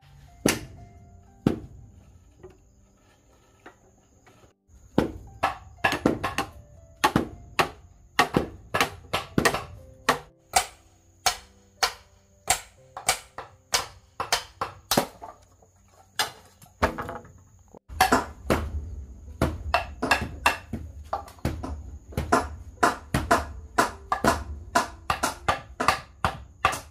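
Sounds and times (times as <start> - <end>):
blade and mallet striking bamboo: 0.2 - 26.9.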